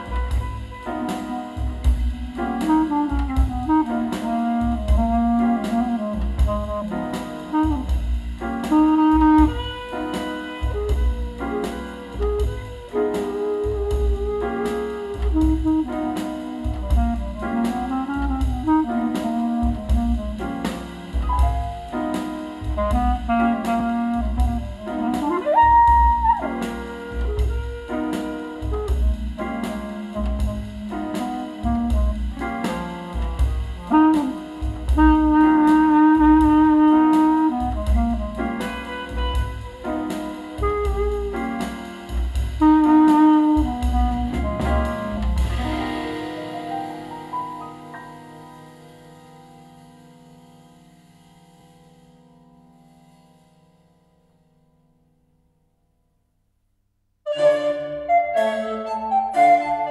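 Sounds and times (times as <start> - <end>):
jazz music over loudspeakers: 0.0 - 54.2, 57.3 - 59.9.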